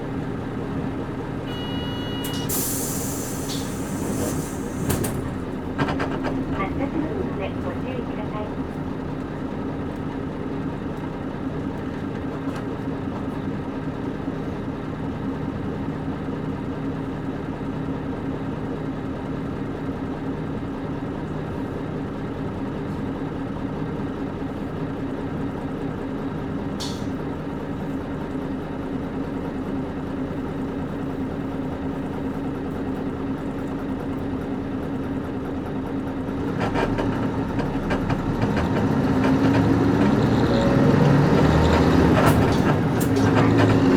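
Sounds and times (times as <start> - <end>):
road noise: 0.0 - 16.2, 20.7 - 43.9
bus diesel engine idling: 0.0 - 43.9.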